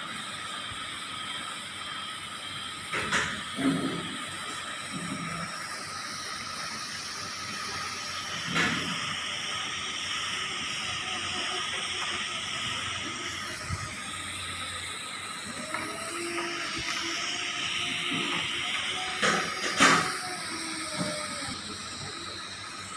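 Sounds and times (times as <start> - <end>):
welding arc hissing: 0.0 - 22.9.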